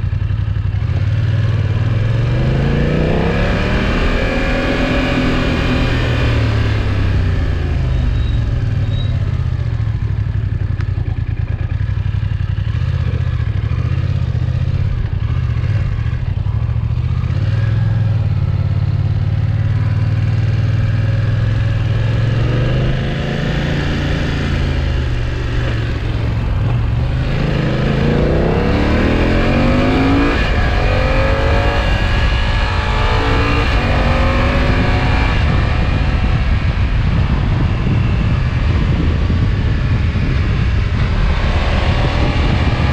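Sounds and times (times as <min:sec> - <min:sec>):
motorcycle engine while riding: 0:00.0 - 0:42.9.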